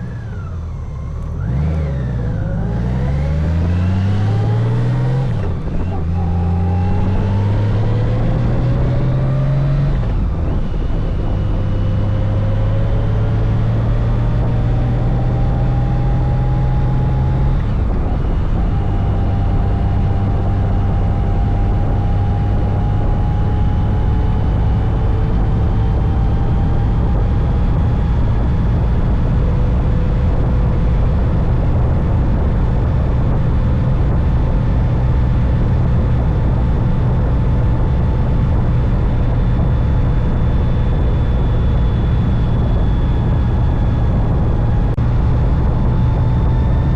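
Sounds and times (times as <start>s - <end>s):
wind and road noise: 0.0s - 46.9s.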